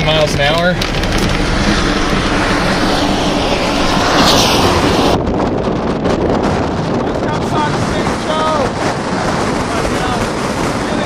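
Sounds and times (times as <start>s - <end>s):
wind gusts buffeting microphone: 0.0s - 11.0s.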